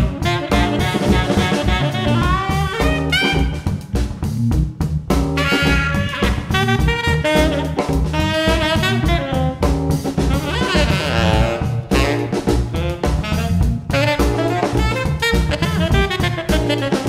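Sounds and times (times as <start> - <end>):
tenor saxophone solo: 0.0 - 3.9, 5.4 - 17.0
drum kit keeping time: 0.0 - 17.0
organ walking bass line: 0.0 - 17.0.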